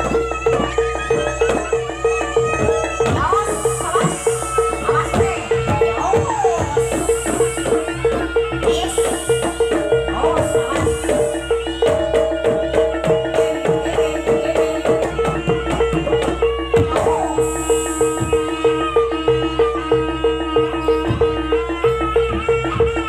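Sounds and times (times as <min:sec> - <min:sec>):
drums: 0:00.0 - 0:23.0
gong-chime percussion: 0:00.0 - 0:23.0.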